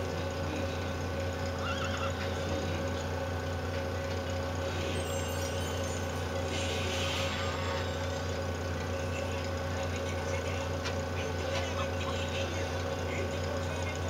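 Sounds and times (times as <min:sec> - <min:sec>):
treadmill motor humming: 0:00.0 - 0:14.0.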